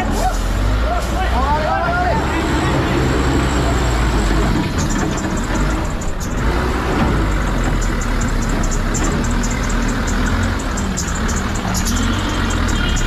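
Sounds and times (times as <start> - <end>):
heavy vehicle engines rumbling: 0.0 - 13.0
road traffic noise: 0.0 - 13.0.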